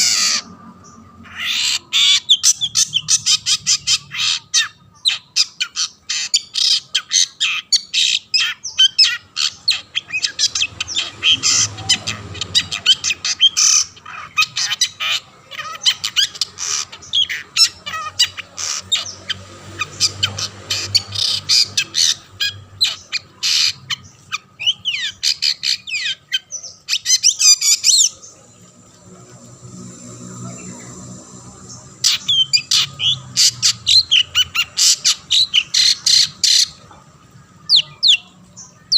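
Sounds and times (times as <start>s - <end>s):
shrike harsh chattering song: 0.0s - 38.9s.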